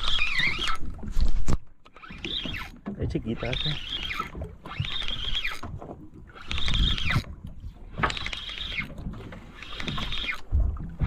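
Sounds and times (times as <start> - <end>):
fishing reel whirring: 0.0 - 10.5
water thudding against hull: 0.0 - 11.0.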